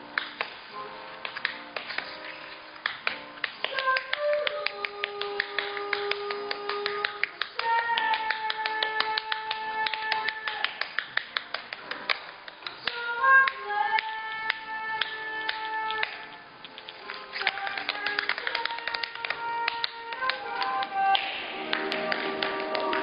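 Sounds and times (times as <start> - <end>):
blues music: 0.0 - 23.0
tap shoes on wooden stage: 0.1 - 23.0.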